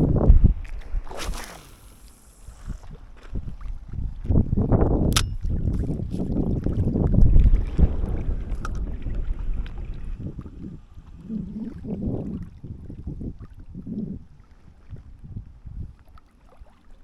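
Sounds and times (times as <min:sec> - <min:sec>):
wind buffeting microphone: 0:00.0 - 0:01.4, 0:02.5 - 0:16.1.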